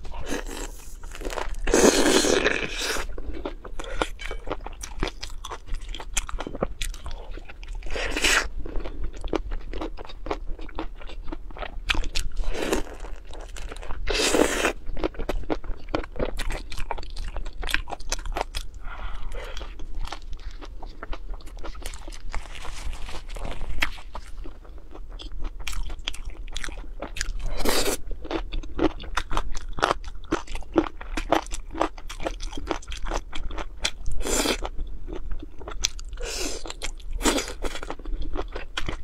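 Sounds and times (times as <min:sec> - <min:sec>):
chewing and crunching food: 0:00.0 - 0:39.0.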